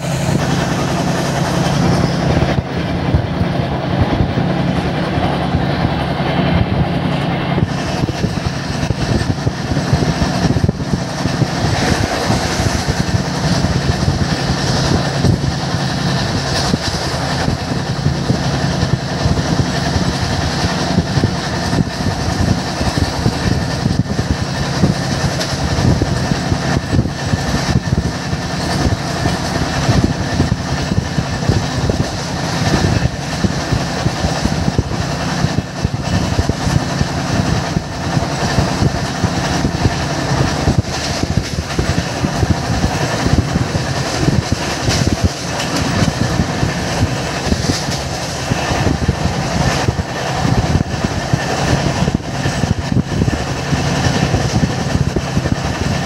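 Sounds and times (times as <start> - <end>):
constant train noise: 0.0 - 56.0
train wheels rumbling on track: 0.0 - 56.0.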